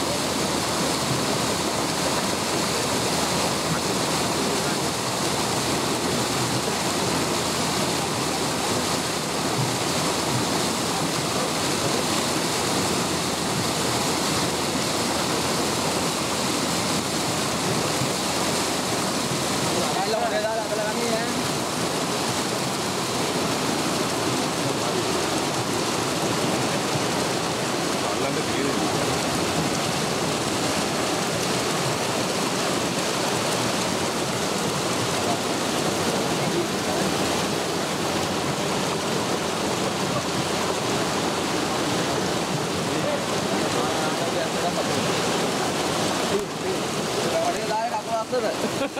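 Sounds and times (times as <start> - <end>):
flowing water in canal: 0.0 - 48.9.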